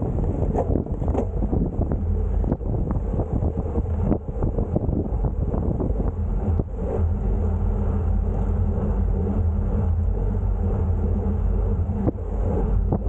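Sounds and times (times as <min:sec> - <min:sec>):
bicycle tyre and road noise: 0:00.0 - 0:13.0
wind on microphone: 0:00.0 - 0:13.0.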